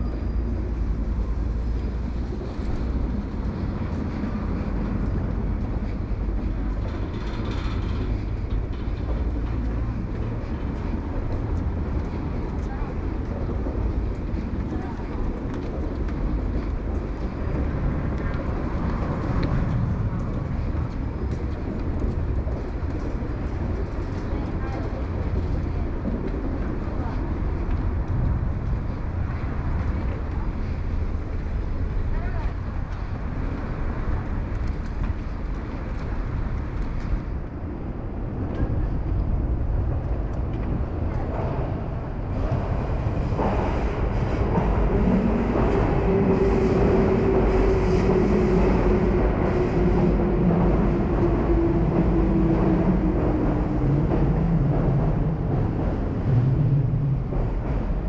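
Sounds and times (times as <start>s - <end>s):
train rumbling across bridge: 0.0s - 58.0s.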